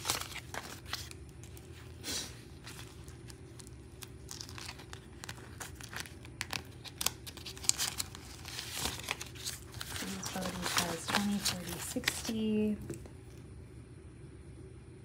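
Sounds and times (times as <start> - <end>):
banknotes rustling: 0.0 - 12.8
plastic pouch crinkling: 0.0 - 13.1.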